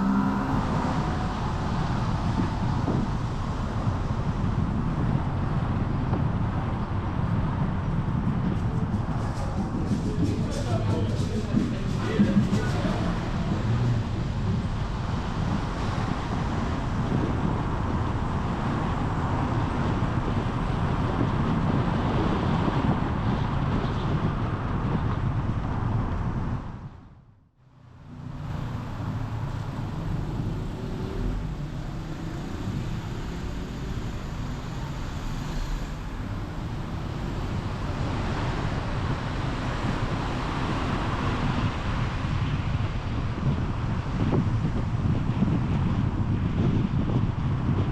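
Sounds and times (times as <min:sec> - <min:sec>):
car engine and tyre rumble: 0:00.0 - 0:47.9
traffic noise: 0:00.0 - 0:47.9.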